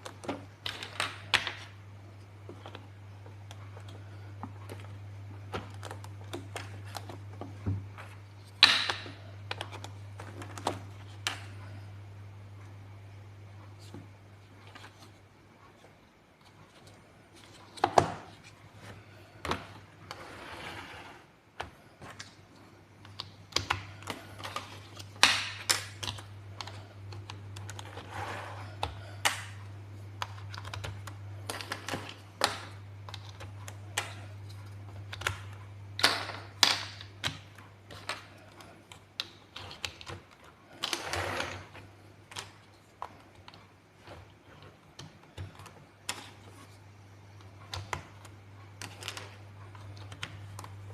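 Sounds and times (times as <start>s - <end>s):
low steady hum: 0.0s - 50.9s.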